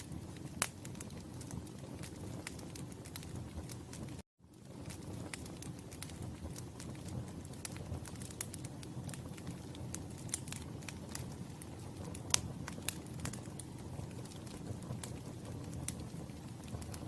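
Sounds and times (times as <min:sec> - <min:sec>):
burning wood crackling and popping: 0:00.0 - 0:17.0
campfire flames rushing: 0:00.0 - 0:17.0.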